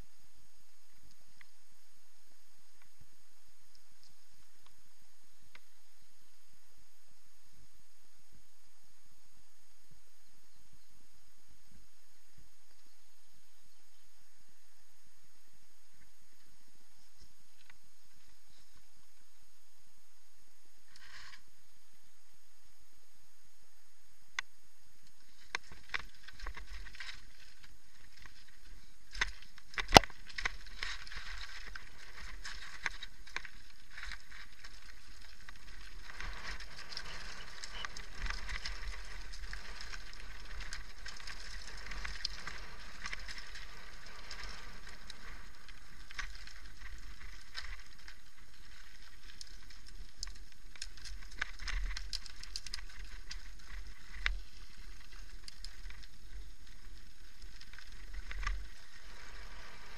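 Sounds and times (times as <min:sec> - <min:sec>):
bike tyres on gravel: 0:11.0 - 0:59.9.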